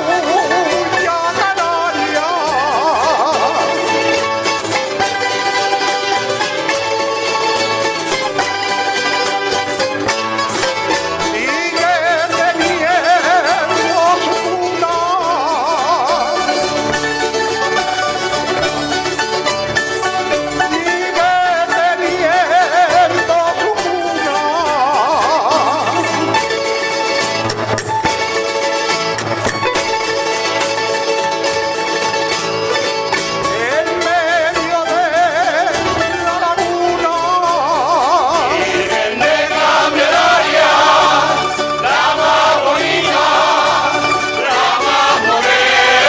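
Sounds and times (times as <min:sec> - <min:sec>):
folk music with vibrato melody: 0:00.0 - 0:46.0.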